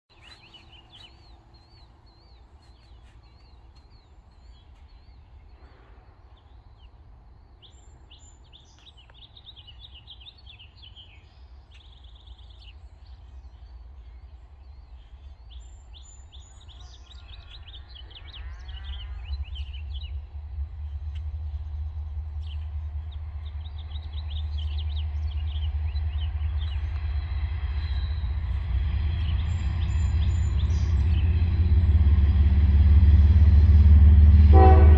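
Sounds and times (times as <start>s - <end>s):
small birds chirping: 0.1s - 34.4s
diesel freight train rumble: 0.1s - 34.9s.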